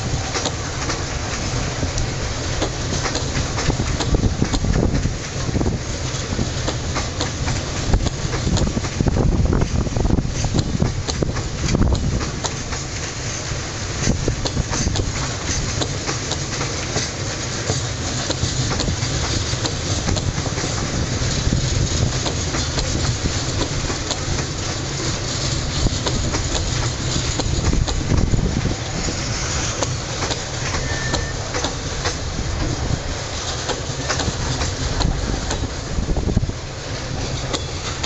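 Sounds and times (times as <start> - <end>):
freight wagons wheel rumble: 0.0 - 38.0
wheels clacking over rail joints: 0.0 - 38.0.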